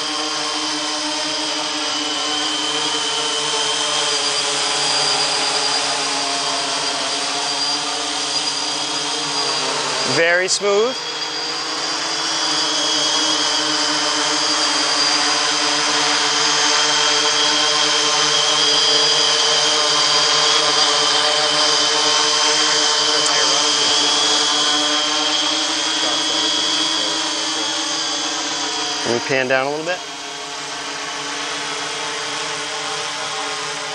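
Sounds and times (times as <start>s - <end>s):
drone propellers whining and buzzing: 0.0s - 33.9s.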